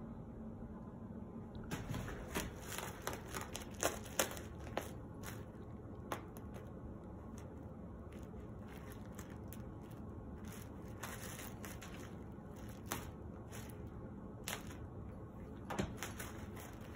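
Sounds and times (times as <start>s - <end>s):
plastic bag crinkling: 1.7s - 16.9s.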